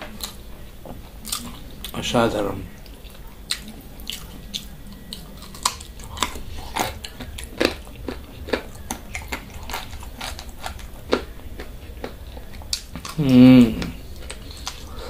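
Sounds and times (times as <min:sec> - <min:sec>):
person chewing food: 0:00.0 - 0:02.0, 0:02.8 - 0:15.0.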